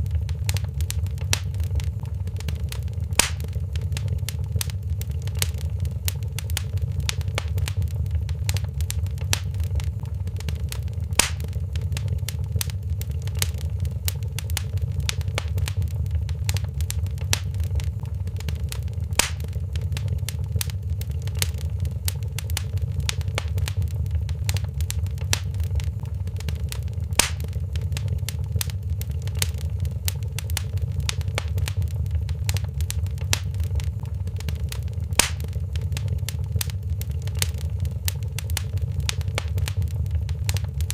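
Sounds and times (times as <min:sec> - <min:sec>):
fire snapping: 0:00.0 - 0:40.9
wood fire crackling: 0:00.0 - 0:40.9.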